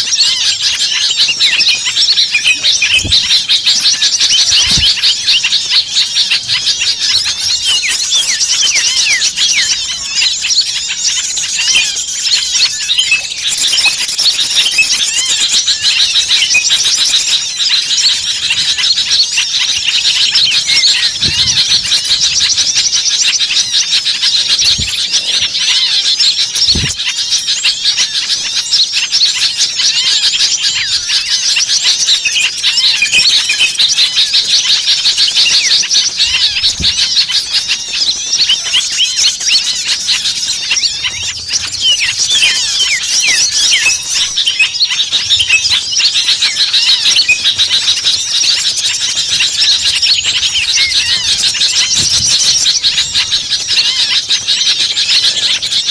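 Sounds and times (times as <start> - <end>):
small birds chirping and trilling: 0.0 - 55.9.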